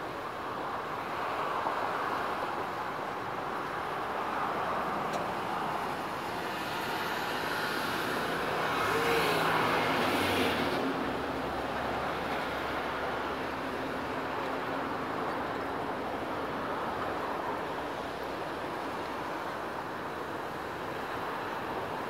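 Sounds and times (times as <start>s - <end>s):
distant traffic hum: 0.0s - 22.0s.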